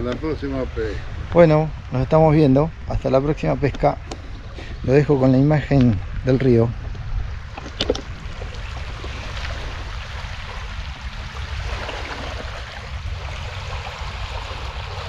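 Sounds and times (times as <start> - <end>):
river water lapping on shore: 0.0 - 15.0.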